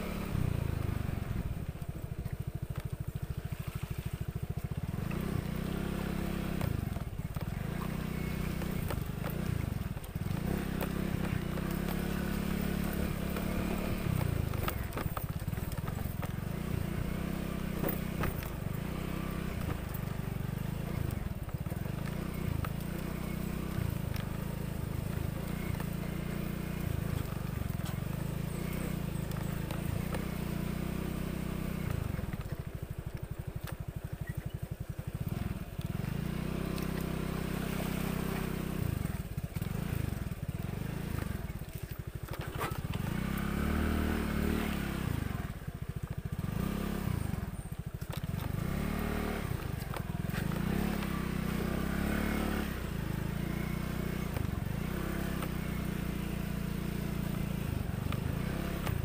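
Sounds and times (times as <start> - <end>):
scooter engine revving: 0.0 - 59.0.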